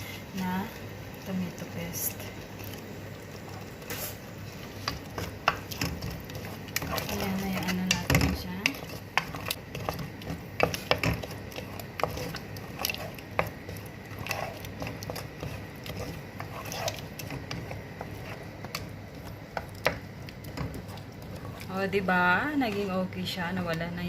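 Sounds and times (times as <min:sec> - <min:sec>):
spoon stirring thick sauce: 0:01.1 - 0:23.1.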